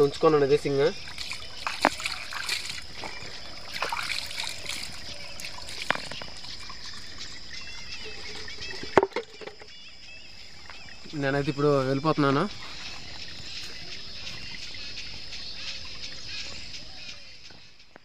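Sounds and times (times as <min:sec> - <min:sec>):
water trickling over stones: 0:00.0 - 0:16.9.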